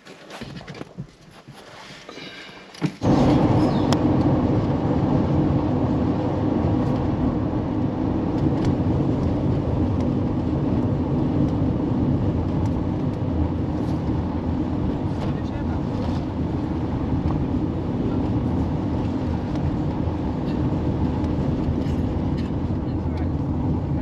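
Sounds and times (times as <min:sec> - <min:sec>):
car engine and road rumble: 0:02.1 - 0:24.0.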